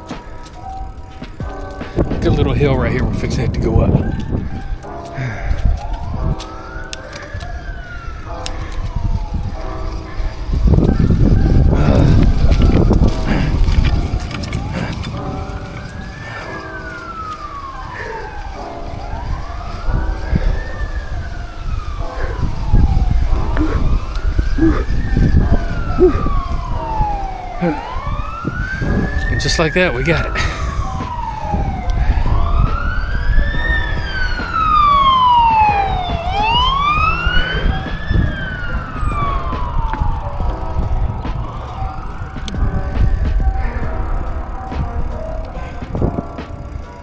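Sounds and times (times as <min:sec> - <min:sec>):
siren wailing: 0:00.0 - 0:47.0
wind and tyre rumble: 0:00.0 - 0:47.0.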